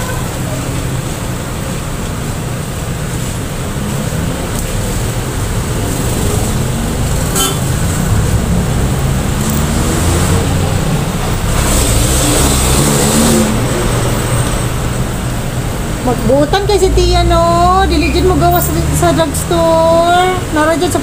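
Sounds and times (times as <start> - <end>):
road traffic noise: 0.0 - 21.0
vehicle engine passing: 2.6 - 21.0.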